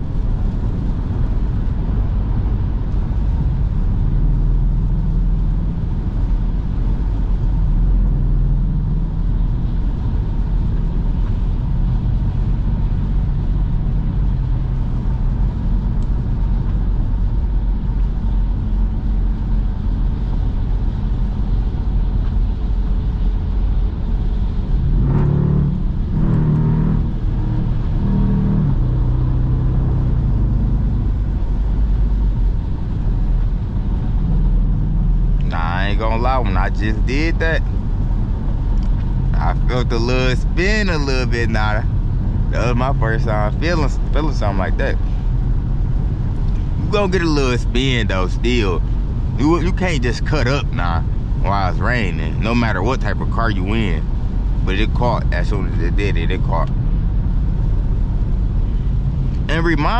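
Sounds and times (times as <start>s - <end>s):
car exhaust rumble: 0.0s - 59.9s.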